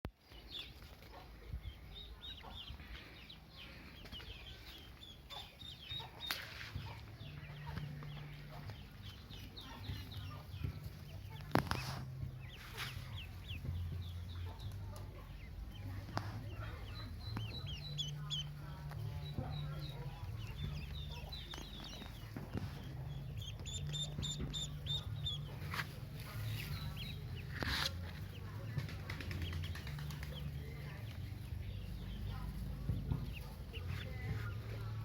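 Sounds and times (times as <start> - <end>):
ducklings peeping: 0.2 - 35.0.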